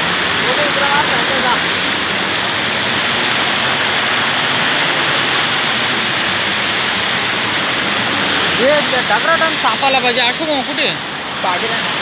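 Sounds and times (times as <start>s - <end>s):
water cascading over rocks: 0.0s - 12.0s.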